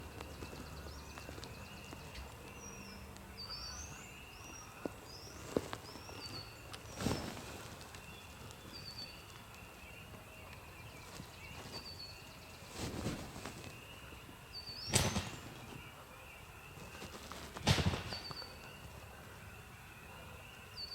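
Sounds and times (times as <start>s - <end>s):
songbirds singing: 0.0s - 20.9s.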